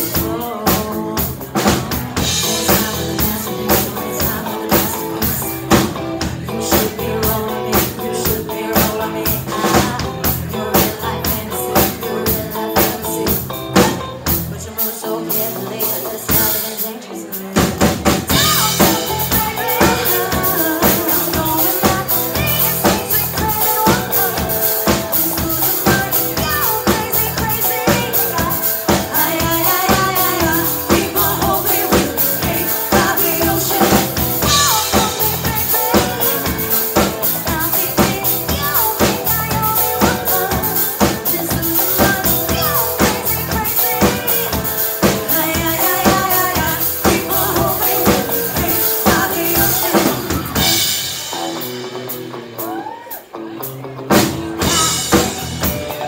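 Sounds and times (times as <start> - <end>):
women singing: 0.0 - 51.0
bass guitar: 0.0 - 56.0
drum kit beat: 0.0 - 56.0
electric guitar: 0.0 - 56.0.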